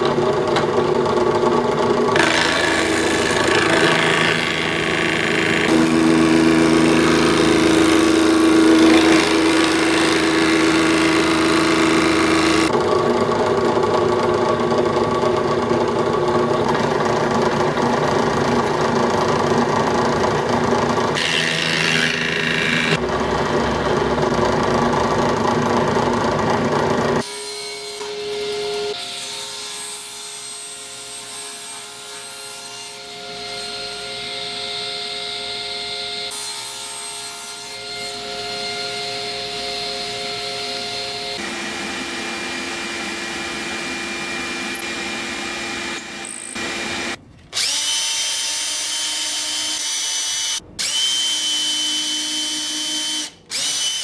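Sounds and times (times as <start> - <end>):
power tool cutting wood: 2.0 - 13.0, 17.2 - 23.7, 27.0 - 54.0.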